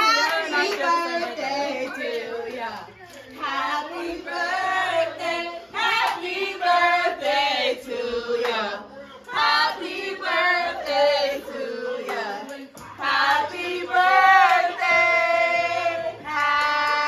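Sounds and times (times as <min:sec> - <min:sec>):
women singing in chorus: 0:00.0 - 0:02.8, 0:03.4 - 0:17.0.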